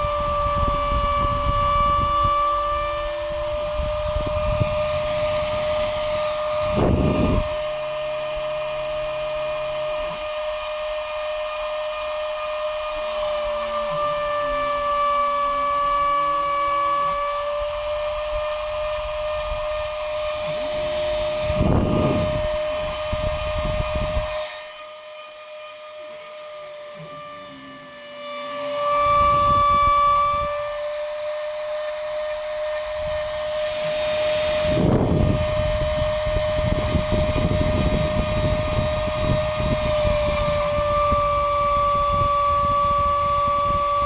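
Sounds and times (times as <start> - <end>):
machine steady whine: 0.0 - 44.0
rough machine noise: 0.0 - 44.0.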